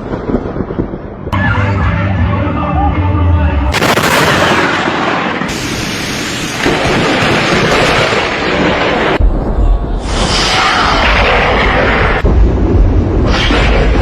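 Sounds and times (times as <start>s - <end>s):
thunder crashing and rumbling: 0.0s - 1.8s, 3.7s - 14.0s.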